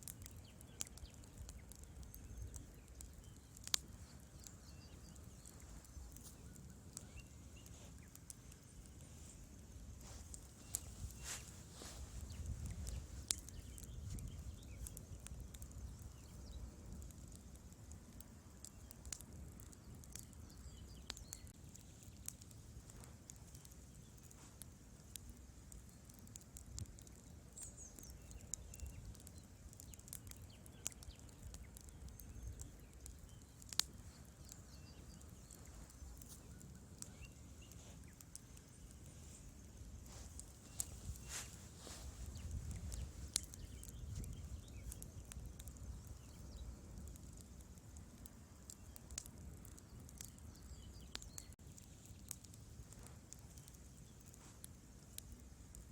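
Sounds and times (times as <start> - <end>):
fire low rumble: 0.0 - 55.9
wood fire crackling and popping: 0.0 - 55.9.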